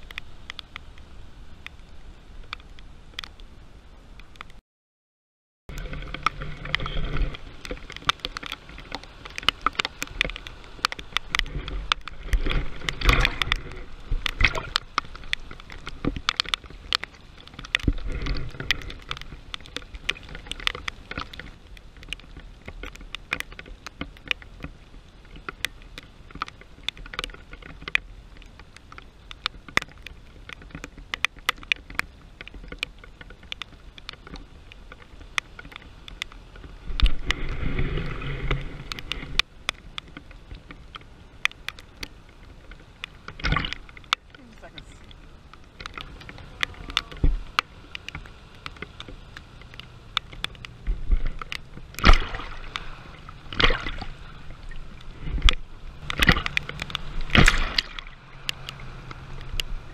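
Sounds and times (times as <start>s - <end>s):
raindrops ticking on camera: 0.0s - 4.6s, 5.7s - 59.9s
heavy rain: 5.7s - 59.9s.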